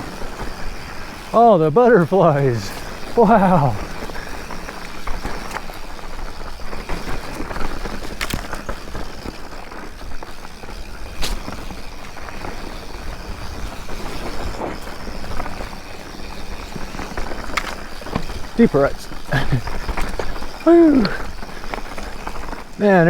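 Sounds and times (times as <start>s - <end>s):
bike clanking over bumps: 0.0s - 23.0s
bike tyres on dirt trail: 0.0s - 23.0s.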